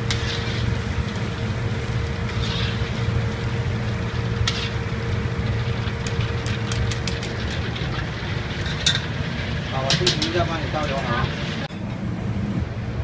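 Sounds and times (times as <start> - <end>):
faint sizzling oil: 0.0 - 11.7
stove and exhaust hood rumble: 0.0 - 13.0.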